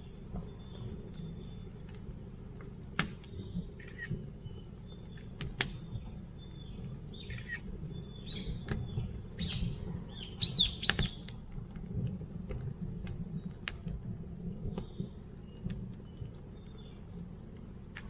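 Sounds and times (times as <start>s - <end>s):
songbirds chirping: 0.0s - 11.3s, 14.5s - 17.9s
crackling wood campfire: 0.0s - 18.0s.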